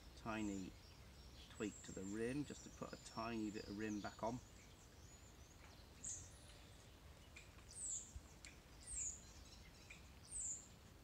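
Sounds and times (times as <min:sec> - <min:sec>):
small bird calling: 0:00.0 - 0:11.0.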